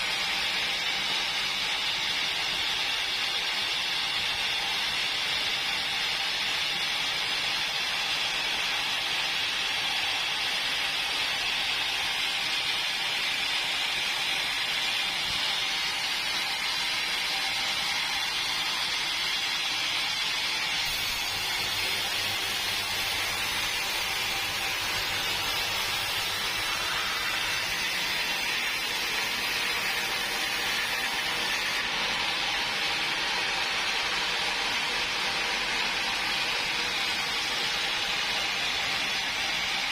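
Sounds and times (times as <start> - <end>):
saw cutting through logs: 0.0 - 39.9.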